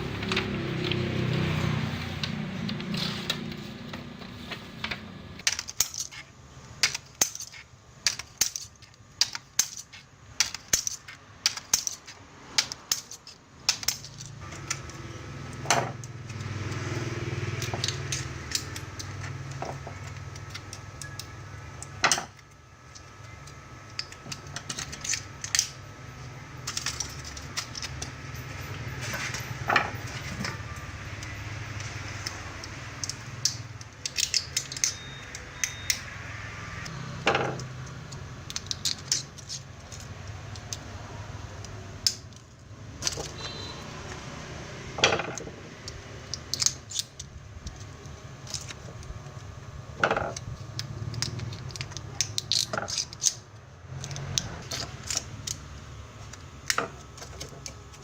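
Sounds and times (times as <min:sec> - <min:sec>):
small metal parts clinking: 0:00.0 - 0:36.2, 0:37.2 - 0:44.2, 0:45.0 - 0:58.0.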